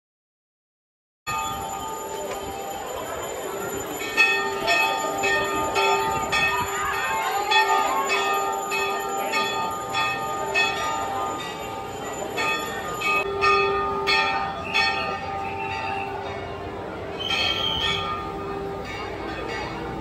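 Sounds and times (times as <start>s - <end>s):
temple bells ringing: 1.3s - 20.0s.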